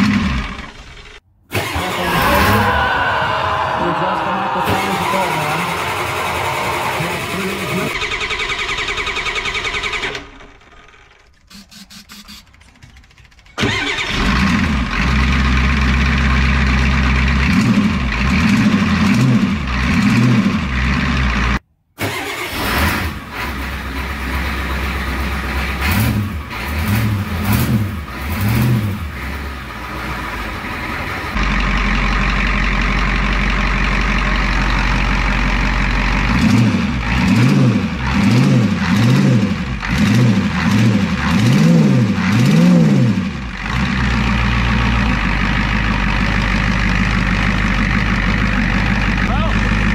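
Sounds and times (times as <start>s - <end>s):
diesel engine revving: 0.0s - 12.6s, 13.6s - 49.9s.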